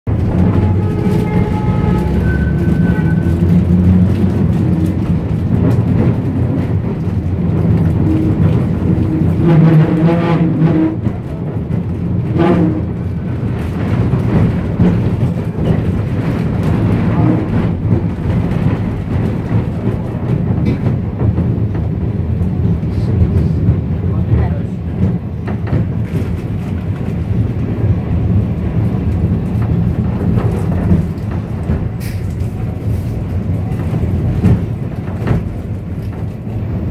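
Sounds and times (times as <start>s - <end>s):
tram wheels rumbling on rail: 0.1s - 36.9s.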